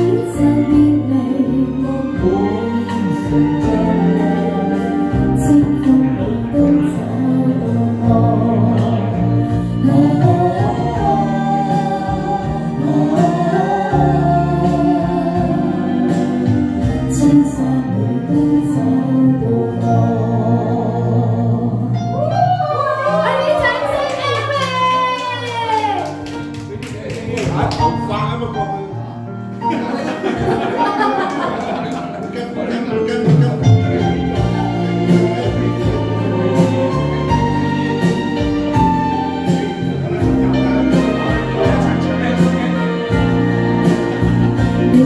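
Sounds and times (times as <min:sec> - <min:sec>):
woman singing into microphone: 0:00.0 - 0:26.2, 0:33.6 - 0:45.0
backing music: 0:00.0 - 0:45.0.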